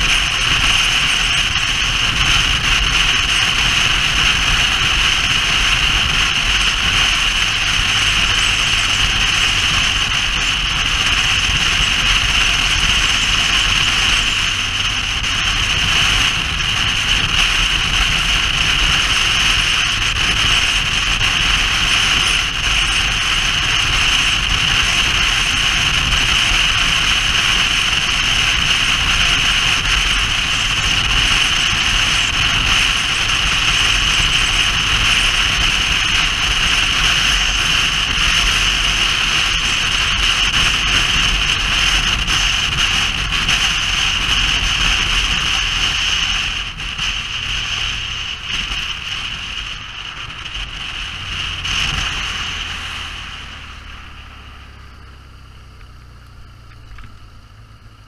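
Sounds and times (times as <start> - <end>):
wind-like rushing noise: 0.0 - 55.4
engine running: 0.0 - 58.0.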